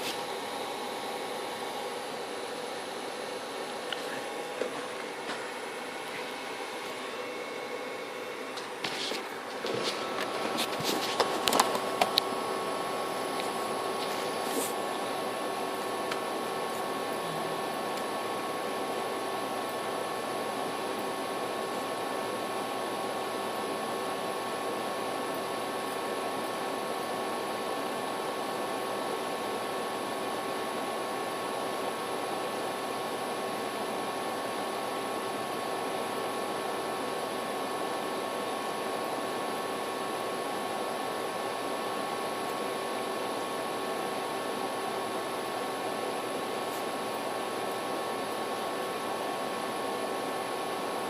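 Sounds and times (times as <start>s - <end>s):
background hiss and hum: 0.0s - 51.0s.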